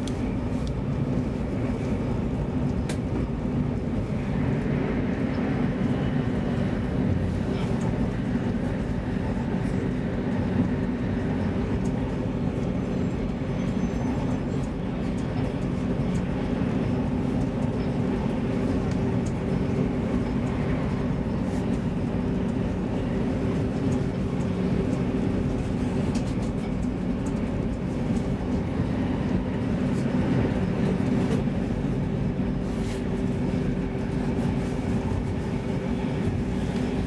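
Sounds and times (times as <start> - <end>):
constant hum: 0.0 - 37.0
train interior rumble: 0.0 - 37.0.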